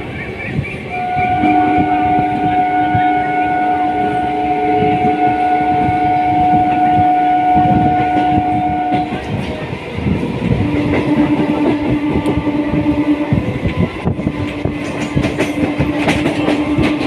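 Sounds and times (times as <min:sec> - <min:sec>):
train wheels rumbling on track: 0:00.0 - 0:17.0
train horn blast: 0:00.9 - 0:09.4, 0:10.5 - 0:17.0.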